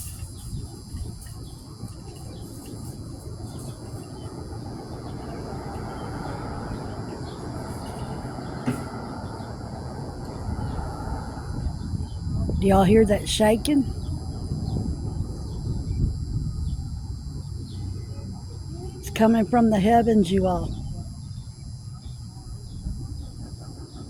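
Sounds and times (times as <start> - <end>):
low rough rumble: 0.0 - 23.5.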